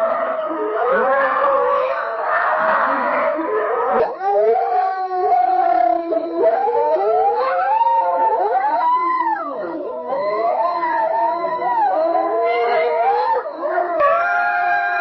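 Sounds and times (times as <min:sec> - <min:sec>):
wolves howling in chorus: 0:00.0 - 0:15.0.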